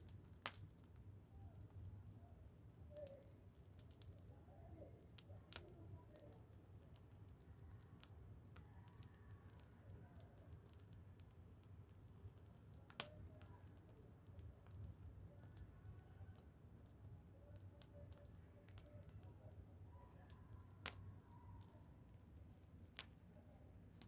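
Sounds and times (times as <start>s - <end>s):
sharp fire snaps: 0.0s - 19.6s
bonfire crackling: 0.0s - 24.0s.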